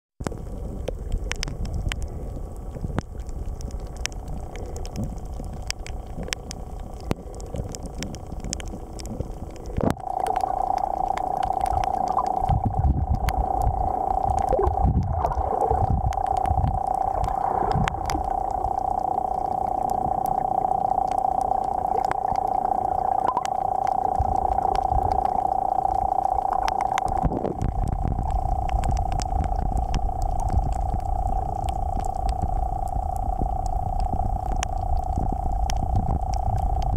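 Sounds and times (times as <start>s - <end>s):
crackling clicks: 0.2s - 36.9s
steady hum: 0.2s - 36.9s
underwater rumble of moving water: 0.2s - 36.9s.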